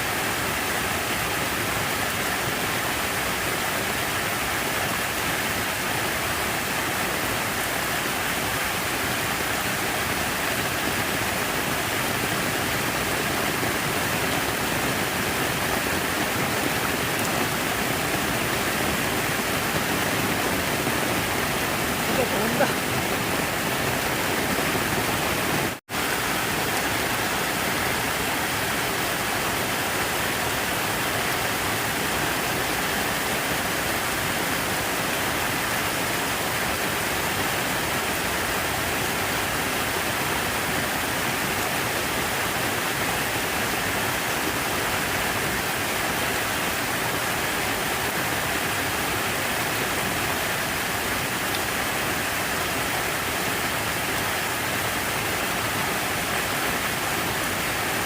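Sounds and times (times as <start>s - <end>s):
rush of falling water: 0.0s - 58.0s.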